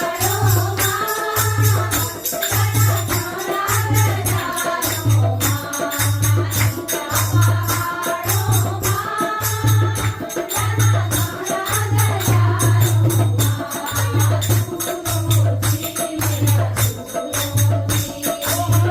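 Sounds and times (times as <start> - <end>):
jingling tambourine-like percussion: 0.0 - 18.9.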